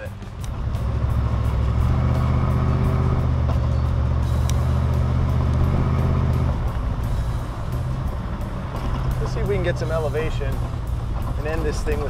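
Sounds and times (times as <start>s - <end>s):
tires rolling over dirt: 0.0s - 12.0s
truck engine and exhaust: 0.0s - 12.0s.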